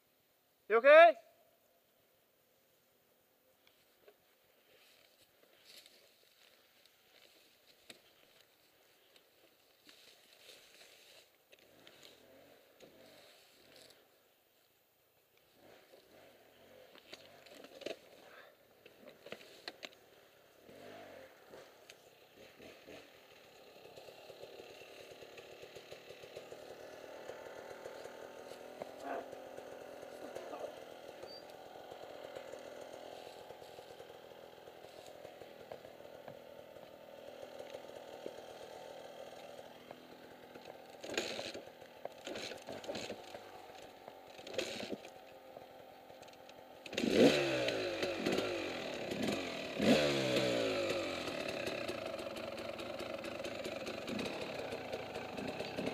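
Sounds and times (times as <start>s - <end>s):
dirt bike engine idling: 3.6s - 55.9s.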